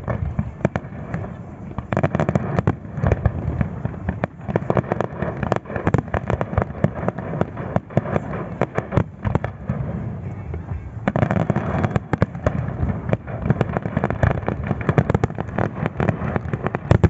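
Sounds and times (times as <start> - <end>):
continuous low rumble: 0.0 - 17.0
fireworks bangs and pops: 0.0 - 17.0.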